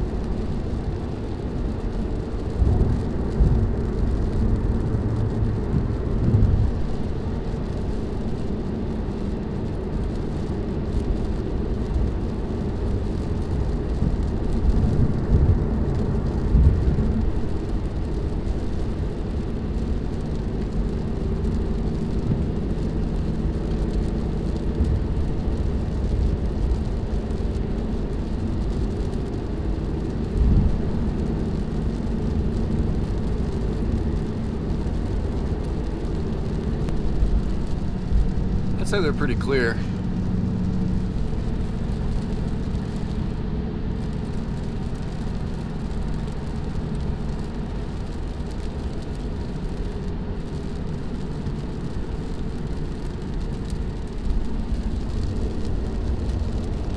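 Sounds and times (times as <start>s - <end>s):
car engine droning: 0.0s - 56.9s
road and tyre rumble: 0.0s - 56.9s.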